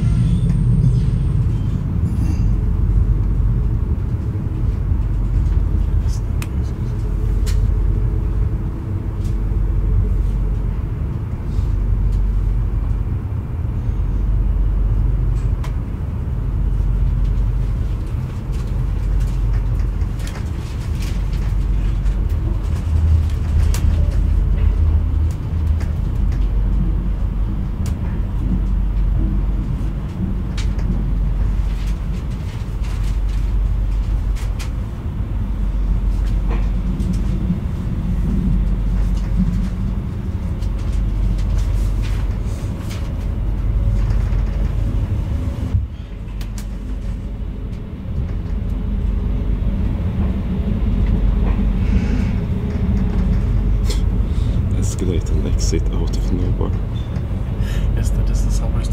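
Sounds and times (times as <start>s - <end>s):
train rumbling along track: 0.0s - 58.9s.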